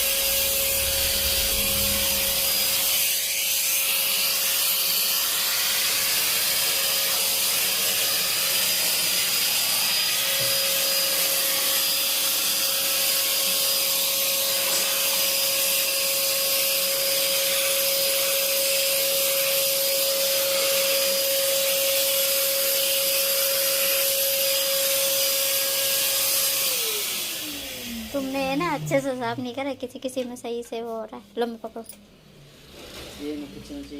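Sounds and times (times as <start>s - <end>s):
vacuum cleaner running: 0.0s - 29.6s, 32.2s - 33.9s.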